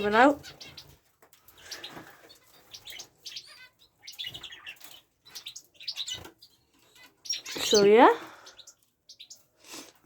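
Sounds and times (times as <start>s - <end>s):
finches chirping: 0.0s - 10.0s.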